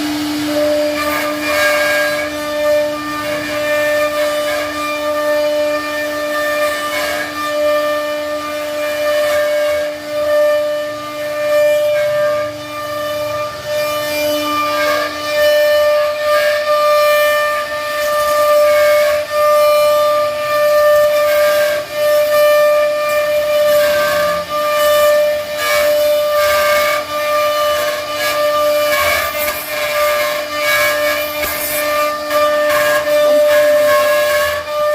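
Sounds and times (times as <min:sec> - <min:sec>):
router spindle whine: 0:00.0 - 0:34.9.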